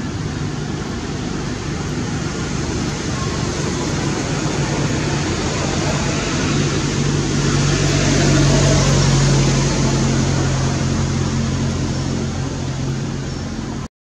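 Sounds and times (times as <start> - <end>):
broad rushing noise: 0.0 - 13.9
engine running with low hum: 0.0 - 13.9.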